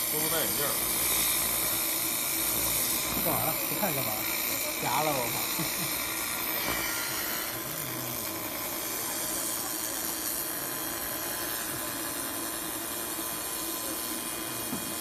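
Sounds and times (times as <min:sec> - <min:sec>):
laser cleaner hissing: 0:00.0 - 0:15.0.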